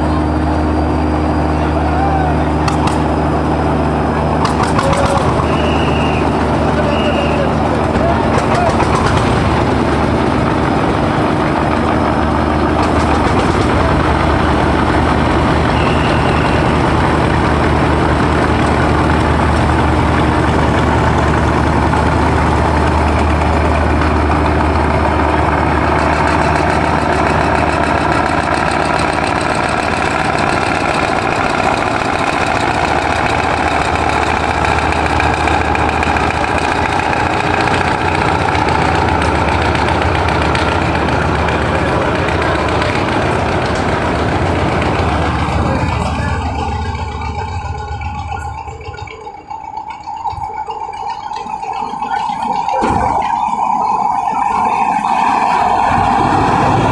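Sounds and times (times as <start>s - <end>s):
boat diesel engine droning: 0.0s - 56.9s.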